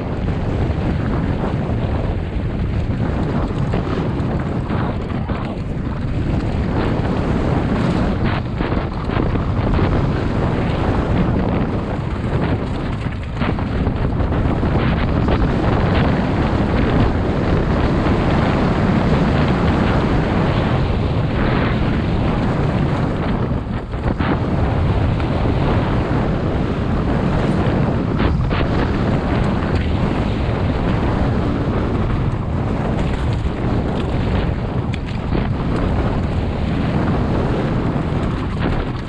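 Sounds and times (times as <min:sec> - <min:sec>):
bike rattling: 0:00.0 - 0:39.0
wind rushing over microphone: 0:00.0 - 0:39.0.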